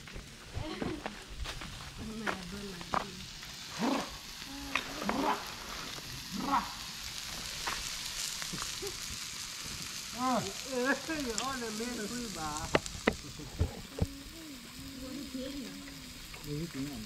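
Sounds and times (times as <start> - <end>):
food sizzling on a grill: 0.0 - 17.0.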